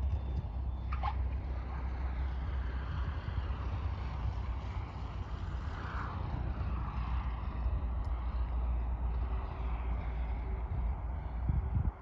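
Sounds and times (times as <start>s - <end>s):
distant propeller plane engine: 0.0s - 12.0s.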